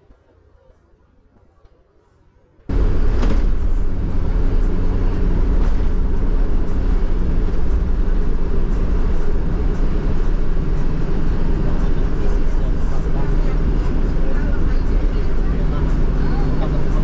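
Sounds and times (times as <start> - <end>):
car road and wind noise: 2.7 - 17.0.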